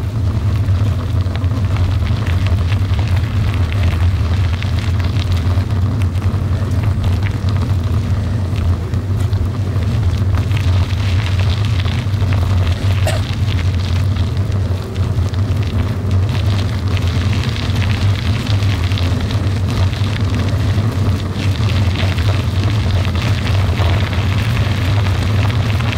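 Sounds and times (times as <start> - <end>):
tyres crackling on gravel: 0.0 - 25.9.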